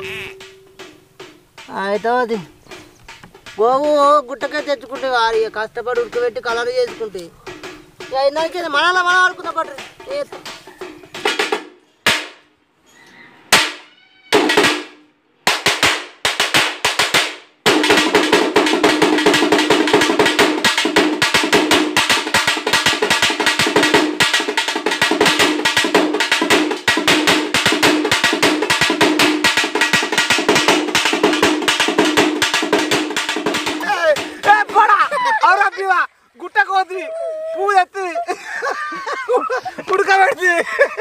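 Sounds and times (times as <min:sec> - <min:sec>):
drumming: 0:00.0 - 0:12.4, 0:14.4 - 0:41.0.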